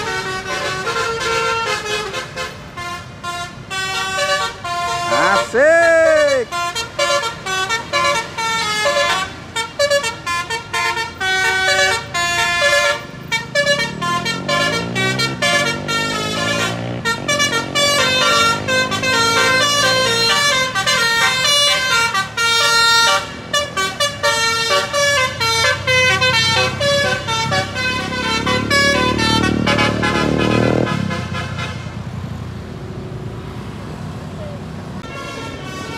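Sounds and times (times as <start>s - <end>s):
musical air horn melody: 0.0s - 31.9s
diesel engine of coach climbing: 0.0s - 35.9s.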